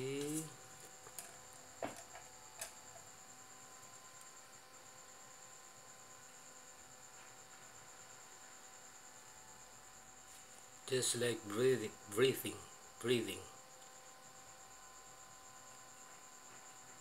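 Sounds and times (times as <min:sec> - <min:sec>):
low hiss: 0:00.0 - 0:17.0
transformer electrical hum: 0:00.0 - 0:17.0.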